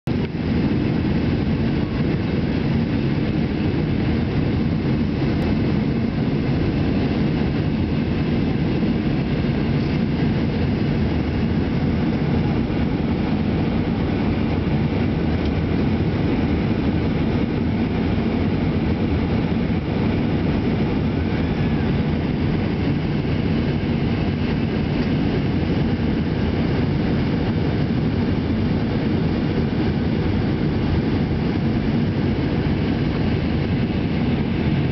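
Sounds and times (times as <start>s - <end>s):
jet engine cabin rumble: 0.0s - 34.9s.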